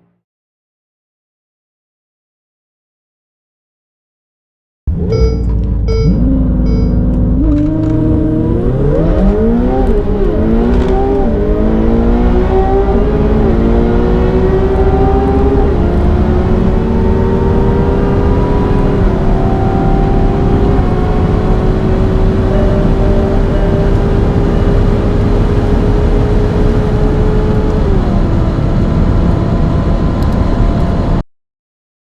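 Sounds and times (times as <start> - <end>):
sports car engine accelerating: 4.9 - 31.2.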